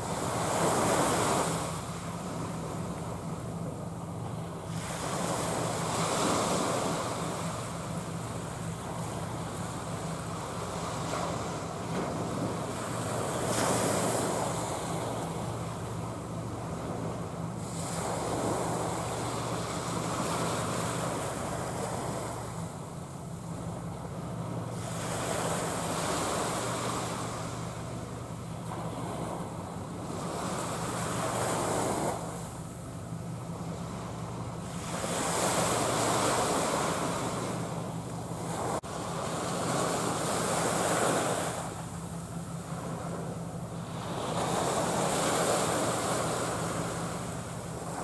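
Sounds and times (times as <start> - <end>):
steady low hum: 0.0 - 48.0
water washing in surges: 0.0 - 48.0
wind: 0.0 - 48.0.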